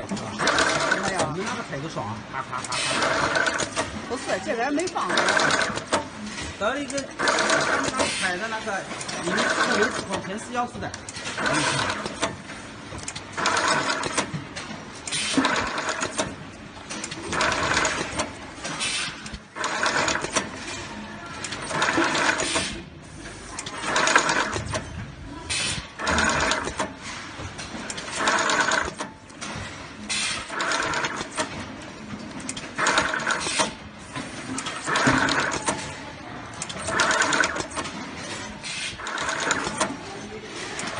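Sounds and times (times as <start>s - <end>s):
taping machine whirring: 0.0s - 10.3s, 11.0s - 14.4s, 15.0s - 22.9s, 23.5s - 24.9s, 25.5s - 31.6s, 32.2s - 40.9s.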